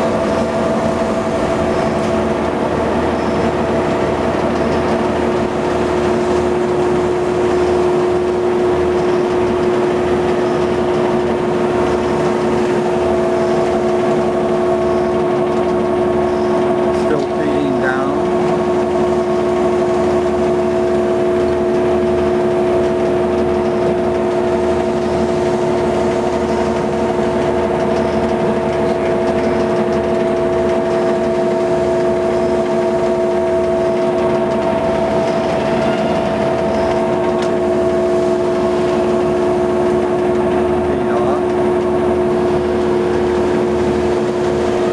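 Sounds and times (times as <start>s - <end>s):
surface grinder humming: 0.0s - 44.9s.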